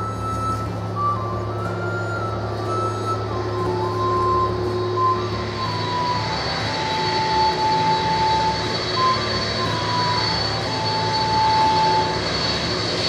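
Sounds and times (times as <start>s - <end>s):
high engine whine: 0.0s - 13.0s
jet engines rushing: 0.0s - 13.0s.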